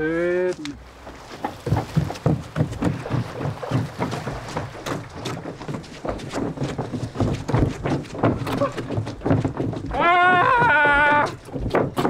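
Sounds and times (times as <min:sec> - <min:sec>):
footsteps on wooden boards: 0:00.5 - 0:12.0.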